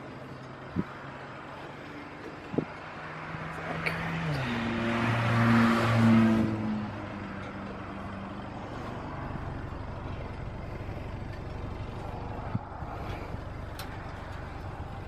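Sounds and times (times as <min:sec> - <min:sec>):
vehicle engine pulling hard: 0:00.0 - 0:15.0.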